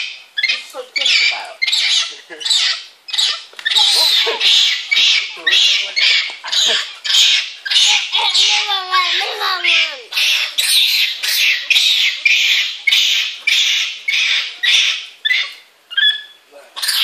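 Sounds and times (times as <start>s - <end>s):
monkeys calling shrilly: 0.0s - 17.0s.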